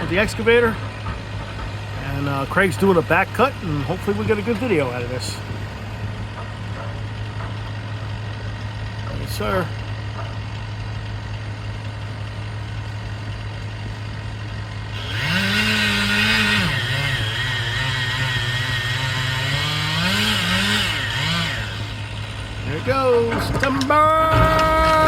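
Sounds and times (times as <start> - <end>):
chainsaw cutting wood: 0.0 - 10.7, 14.9 - 25.0
diesel excavator engine running: 0.0 - 25.0.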